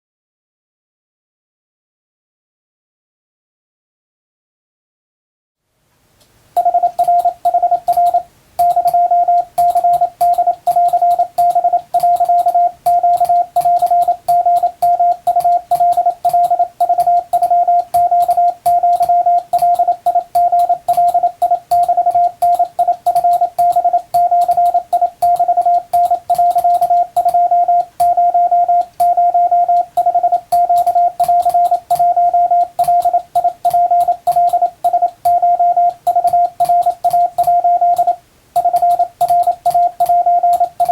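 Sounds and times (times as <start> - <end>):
morse code beeps: 6.6 - 40.9.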